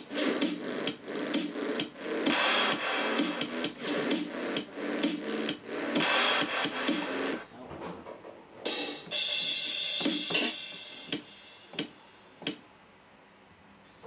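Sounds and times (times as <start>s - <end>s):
drum and hi-hat hits: 0.0s - 7.4s, 8.6s - 12.7s.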